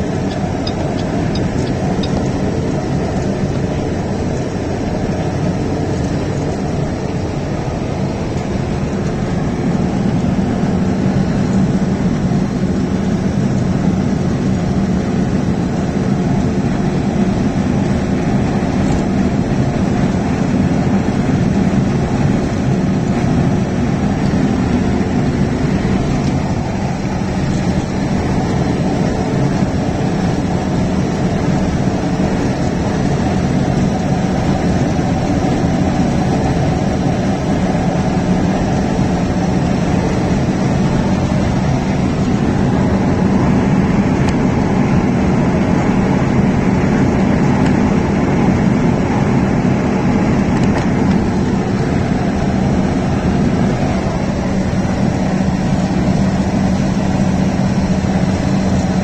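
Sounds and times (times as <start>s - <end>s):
road noise: 0.0s - 59.0s
truck engine drone: 0.0s - 59.0s.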